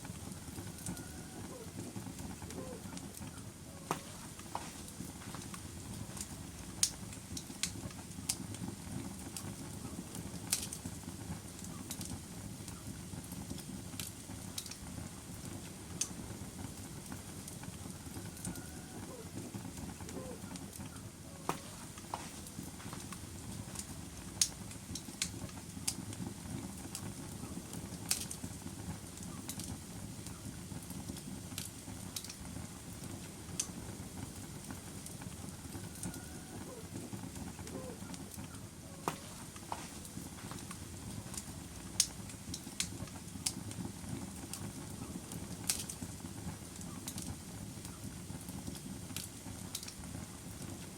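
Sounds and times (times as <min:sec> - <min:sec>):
fire crackles and pops: 0:00.0 - 0:50.9
log fire rushing: 0:00.0 - 0:50.9.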